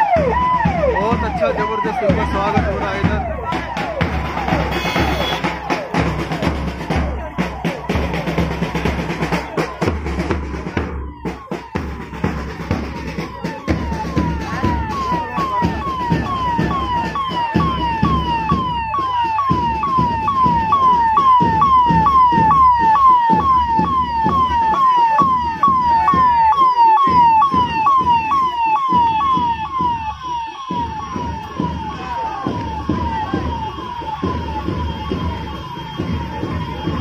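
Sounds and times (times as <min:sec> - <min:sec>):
large crowd noise: 0:00.0 - 0:37.0
vehicle engines: 0:00.0 - 0:37.0.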